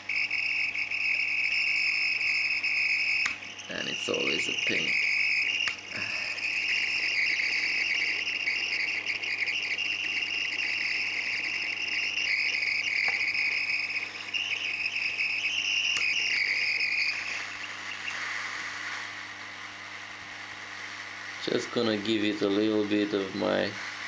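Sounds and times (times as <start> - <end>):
hot-air gun hissing: 0.0 - 24.0.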